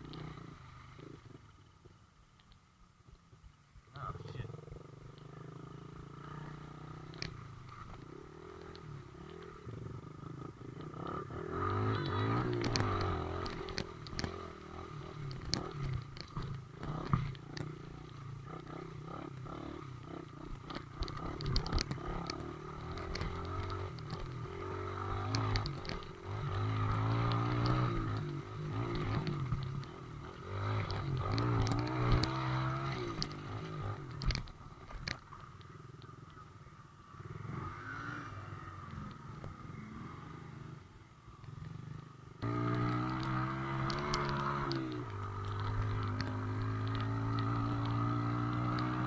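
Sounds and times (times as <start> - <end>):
off-road vehicle engine revving: 4.0 - 34.4, 37.2 - 40.8, 42.4 - 49.0.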